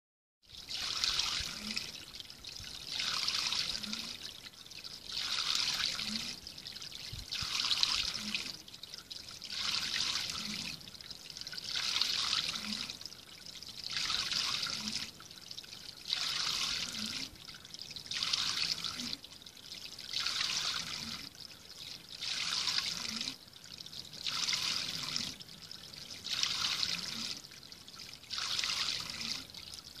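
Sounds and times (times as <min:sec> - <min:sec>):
water trickling into pool: 0:00.4 - 0:30.0.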